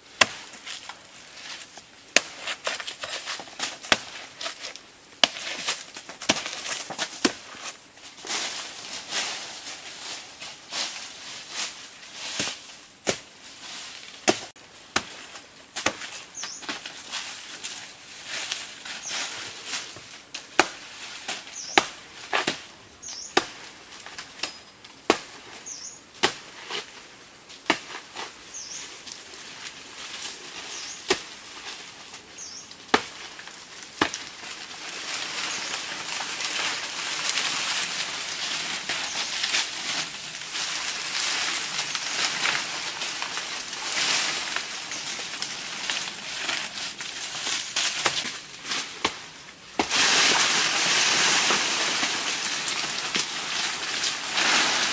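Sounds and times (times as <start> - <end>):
leaves rustling: 0.0 - 54.9.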